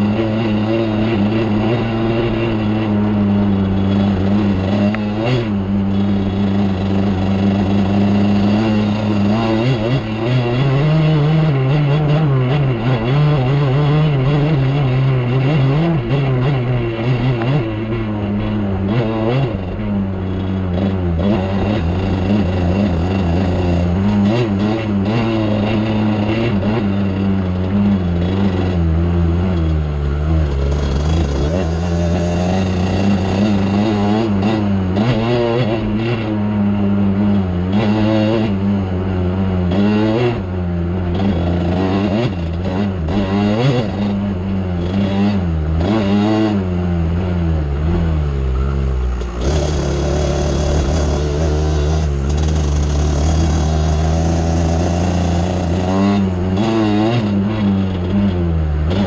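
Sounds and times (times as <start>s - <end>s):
vehicle engine revving: 0.0s - 59.0s.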